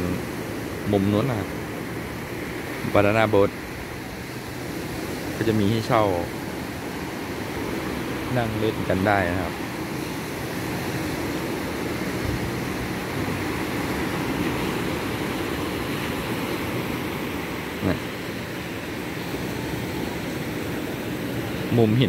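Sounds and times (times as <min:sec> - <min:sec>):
waves washing up a beach: 0:00.0 - 0:22.0.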